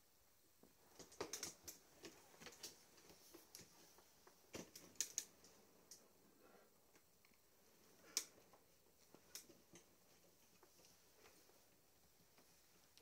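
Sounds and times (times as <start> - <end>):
faint clicks and light taps: 0.6 - 6.1, 6.9 - 13.0.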